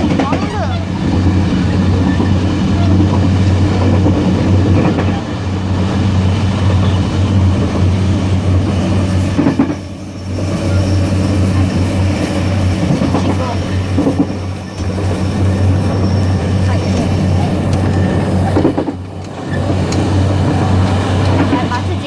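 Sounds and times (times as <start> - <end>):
train running drone: 0.0 - 22.0
wheel-on-rail noise: 0.0 - 22.0.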